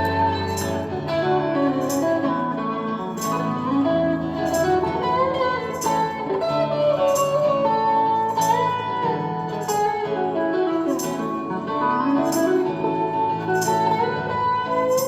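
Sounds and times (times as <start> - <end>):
bass: 0.0 - 15.0
lead guitar melody: 0.0 - 15.0.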